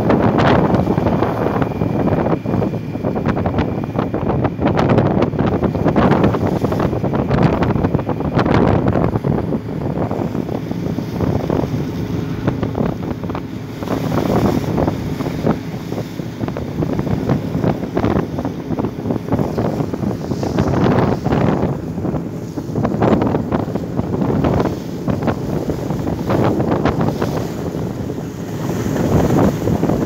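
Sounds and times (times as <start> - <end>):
water splashing along boat hull: 0.0 - 30.0
wind buffeting microphone: 0.0 - 30.0.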